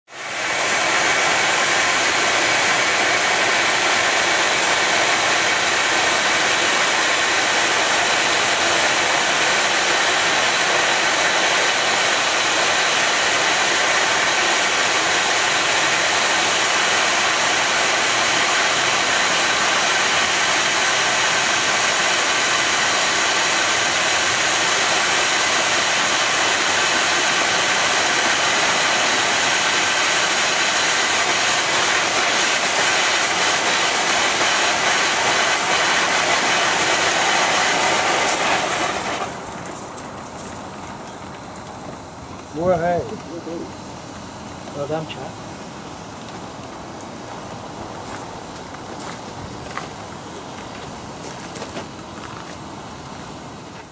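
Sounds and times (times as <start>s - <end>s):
pressurized water hissing from pipe: 0.1s - 53.9s.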